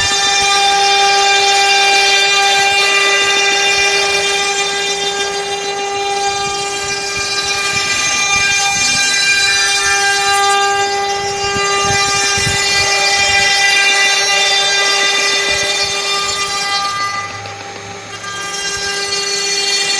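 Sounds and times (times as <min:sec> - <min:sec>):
low rumble of cutting: 0:00.0 - 0:19.9
router spindle whine: 0:00.0 - 0:19.9.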